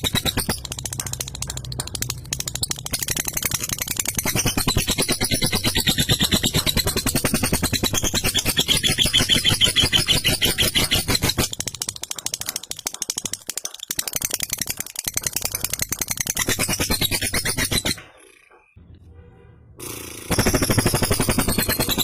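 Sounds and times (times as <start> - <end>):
lovebird chattering trill: 0.0 - 18.6.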